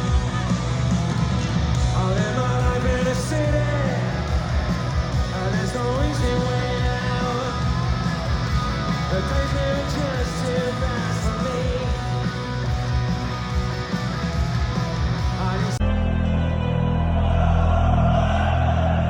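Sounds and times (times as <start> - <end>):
rock song with guitar: 0.0 - 17.1.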